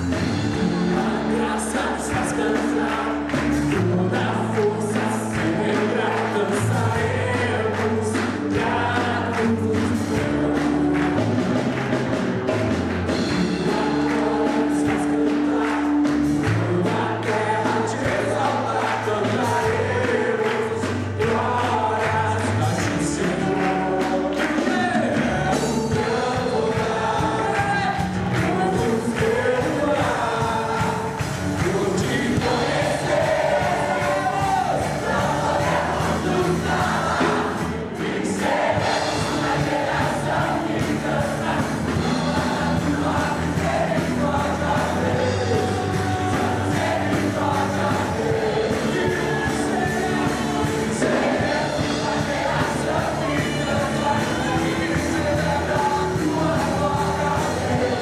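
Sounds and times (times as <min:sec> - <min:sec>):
band accompaniment with bass and beat: 0:00.0 - 0:58.0
group of voices singing worship song: 0:00.0 - 0:58.0.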